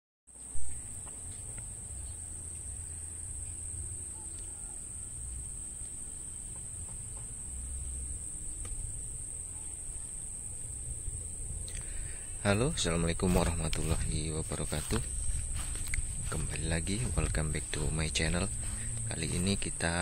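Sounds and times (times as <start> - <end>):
insects trilling: 0.3 - 20.0
low uneven rumble: 0.4 - 20.0.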